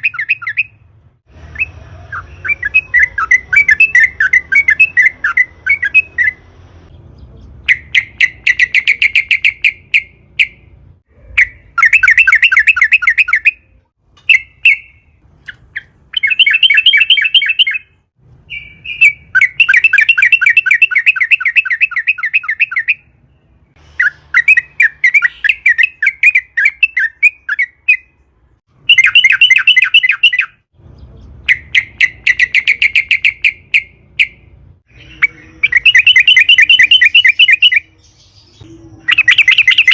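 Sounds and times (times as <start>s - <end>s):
bulbul bubbling song: 0.0s - 39.9s.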